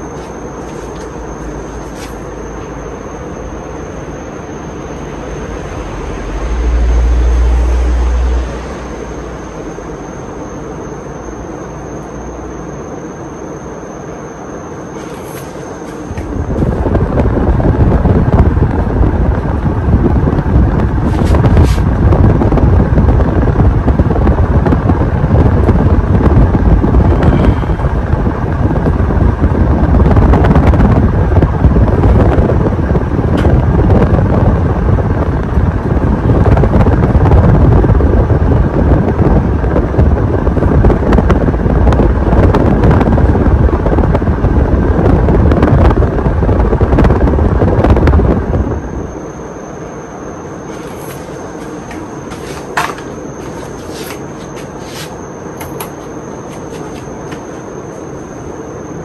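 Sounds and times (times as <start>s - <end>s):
ceiling fan air rush: 0.0s - 59.0s
faint motor hum: 0.0s - 59.0s.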